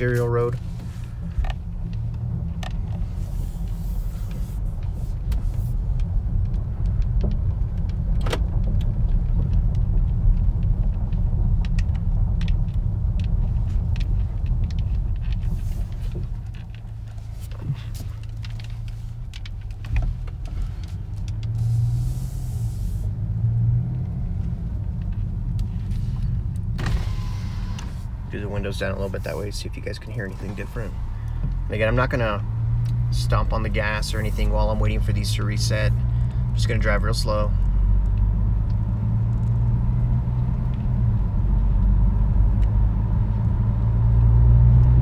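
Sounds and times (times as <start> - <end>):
car engine in cabin: 0.0 - 45.0
road rumble: 0.0 - 45.0.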